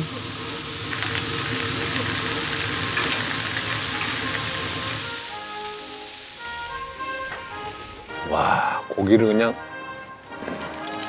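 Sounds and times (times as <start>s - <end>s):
meat sizzling on a griddle: 0.0s - 8.8s, 10.3s - 11.0s
music: 0.0s - 11.0s.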